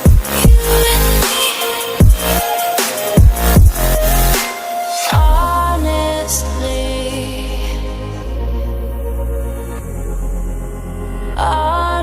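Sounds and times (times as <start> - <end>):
electronic synth music: 0.0 - 12.0
synth sweep: 0.0 - 12.0.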